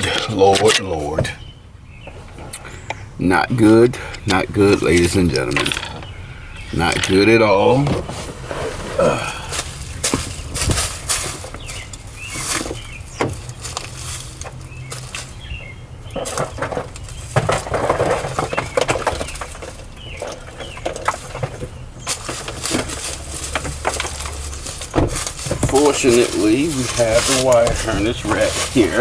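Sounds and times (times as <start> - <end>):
rustles clicks and knocks of handling: 3.6 - 29.0.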